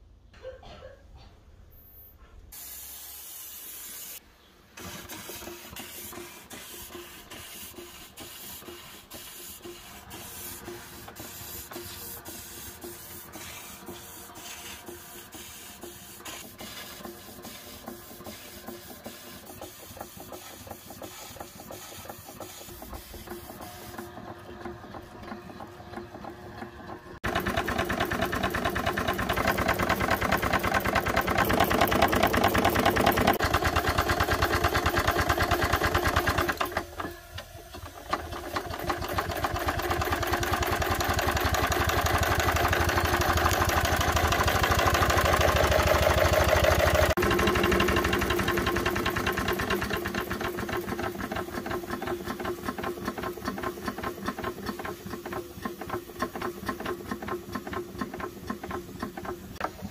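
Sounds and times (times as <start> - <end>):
steam engine mechanical beat: 4.8 - 37.1, 37.8 - 59.9.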